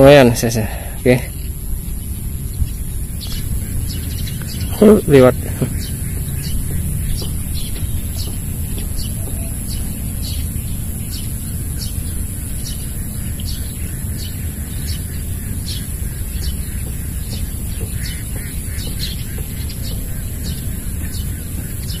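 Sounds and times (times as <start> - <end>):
high-pitched whine: 0.0 - 22.0
low steady rumble: 0.0 - 22.0.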